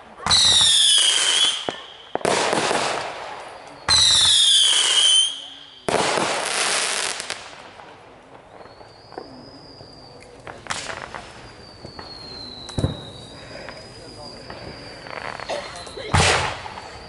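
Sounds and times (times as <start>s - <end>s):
fireworks blasts: 0.0s - 17.0s
fireworks crackling: 0.0s - 17.0s
fireworks whistling: 0.0s - 17.0s.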